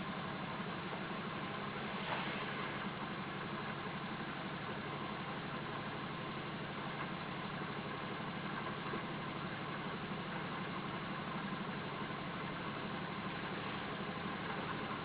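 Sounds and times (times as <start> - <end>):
stirling engine running: 0.0 - 6.1, 6.9 - 15.0.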